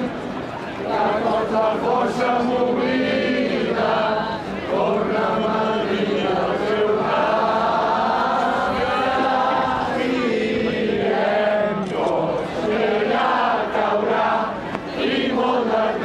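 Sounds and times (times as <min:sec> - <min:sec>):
group of voices singing: 0:00.8 - 0:16.0.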